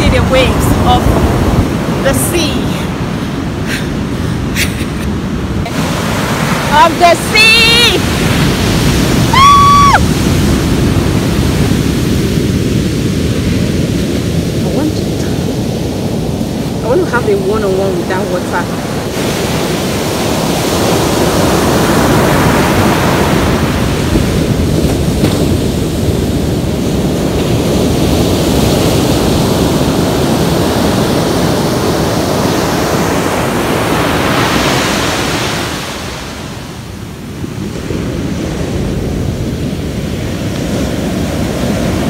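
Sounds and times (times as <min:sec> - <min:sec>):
ocean surf breaking on beach: 0:00.0 - 0:42.0.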